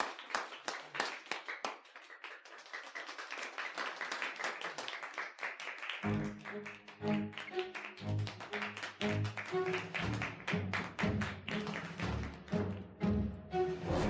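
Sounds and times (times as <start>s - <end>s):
people clapping: 0.0s - 13.4s.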